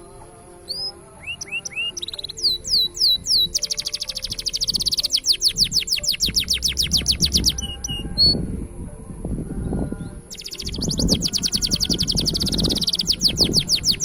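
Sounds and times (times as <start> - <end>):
canary singing trills: 0.0 - 8.6, 9.6 - 14.0.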